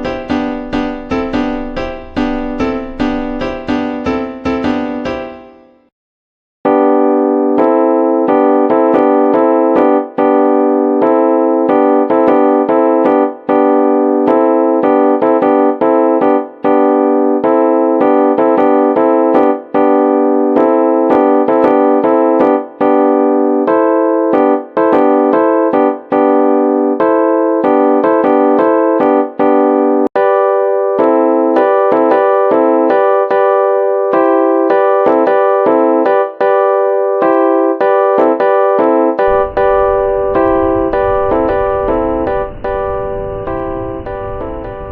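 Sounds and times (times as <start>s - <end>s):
electric piano music: 0.0s - 5.9s, 6.6s - 44.9s.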